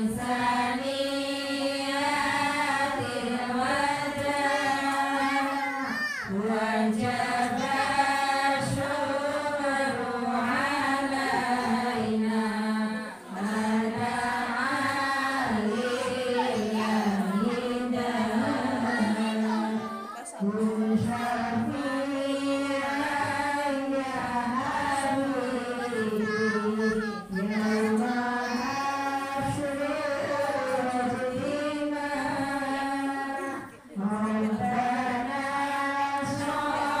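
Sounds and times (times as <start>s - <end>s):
women singing a chant: 0.0s - 37.0s.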